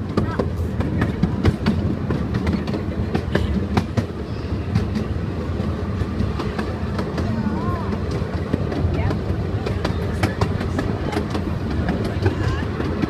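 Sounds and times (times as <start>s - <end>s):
train carriage rumbling on track: 0.0s - 13.0s.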